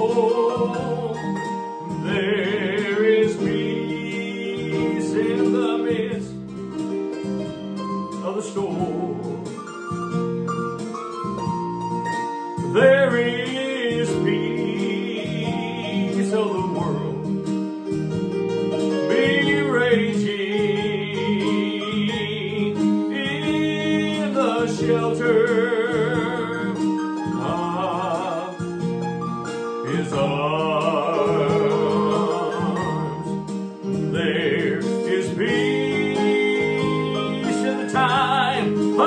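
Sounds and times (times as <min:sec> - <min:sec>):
person singing with vibrato: 0:00.0 - 0:06.5, 0:08.2 - 0:09.6, 0:12.6 - 0:17.3, 0:19.1 - 0:29.0, 0:29.6 - 0:39.0
instrumental accompaniment: 0:00.0 - 0:39.0.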